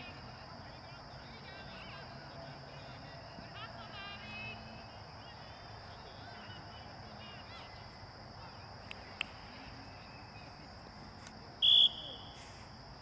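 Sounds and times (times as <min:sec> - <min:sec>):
distant shouts and calls: 0:00.0 - 0:10.8
faint high hiss: 0:00.0 - 0:13.0.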